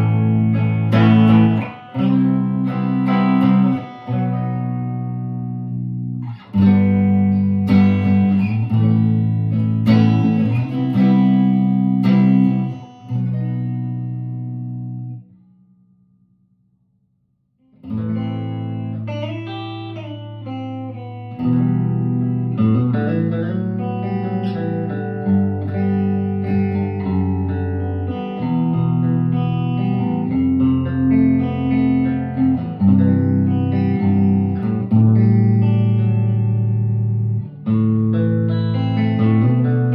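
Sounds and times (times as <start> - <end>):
electric guitar chords: 0.0 - 15.7, 17.8 - 39.9.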